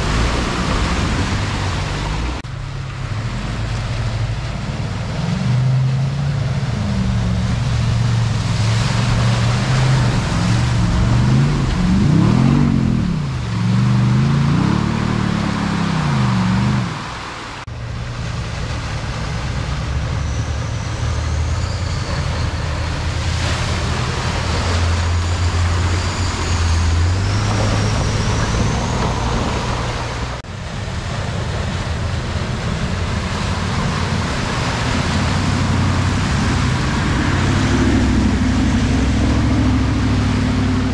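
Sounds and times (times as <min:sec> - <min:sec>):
fast-flowing water rushing: 0:00.0 - 0:40.9
off-road vehicle engines: 0:00.0 - 0:40.9.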